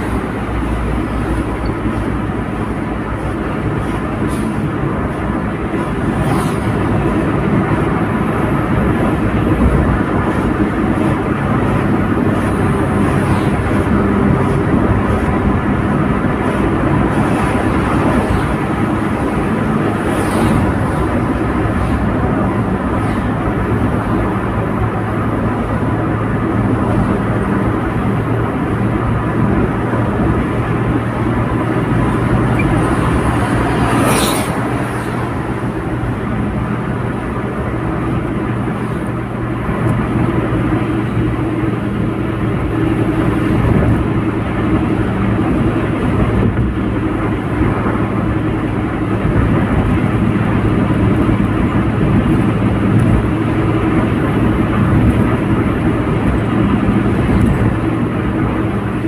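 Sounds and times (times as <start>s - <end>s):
car engine drone: 0.0s - 59.0s.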